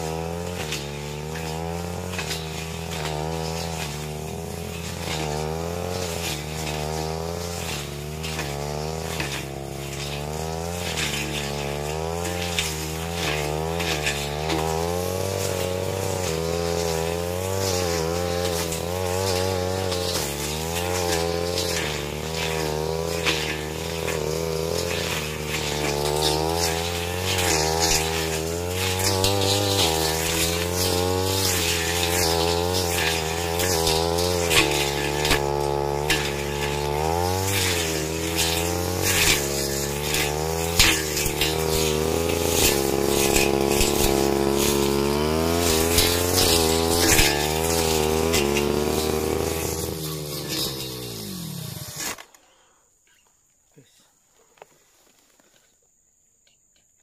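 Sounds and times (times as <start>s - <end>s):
brush cutter engine running: 0.0s - 52.4s
plant stems hitting blade: 0.0s - 52.4s.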